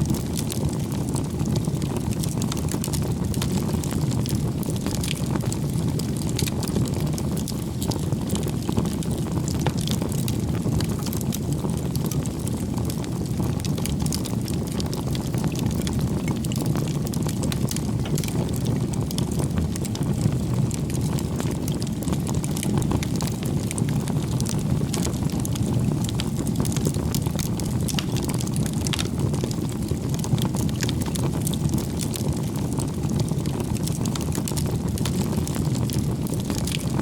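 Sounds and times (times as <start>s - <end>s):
fire crackling and popping: 0.0s - 37.0s
low noise of flames: 0.0s - 37.0s.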